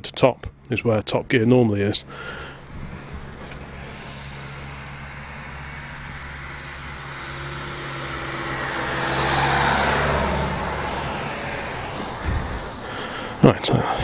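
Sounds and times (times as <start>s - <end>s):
steady low hum: 0.0s - 14.0s
vehicle passing by: 2.0s - 14.0s.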